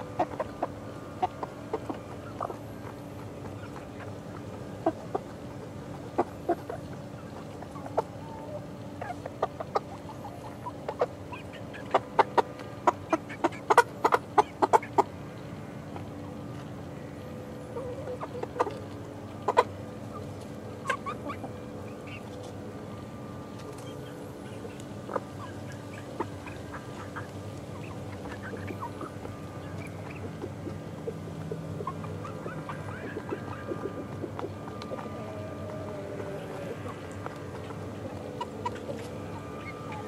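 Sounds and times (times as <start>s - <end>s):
young chickens clucking: 0.0s - 40.0s.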